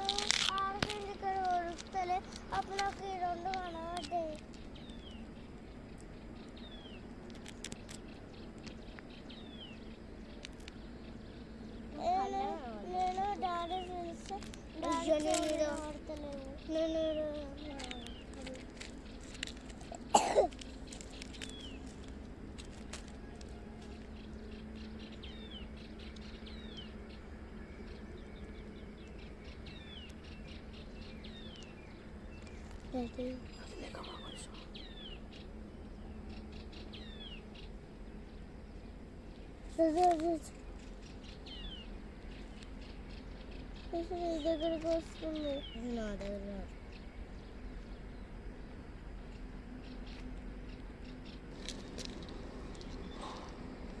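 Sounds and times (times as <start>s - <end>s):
steady faint hum: 0.0s - 54.0s.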